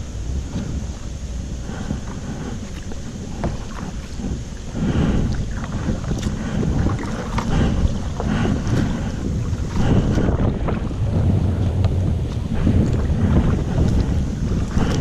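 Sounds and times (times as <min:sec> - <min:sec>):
water splashing against kayak: 0:00.0 - 0:15.0
wind rumbling on microphone: 0:00.0 - 0:15.0.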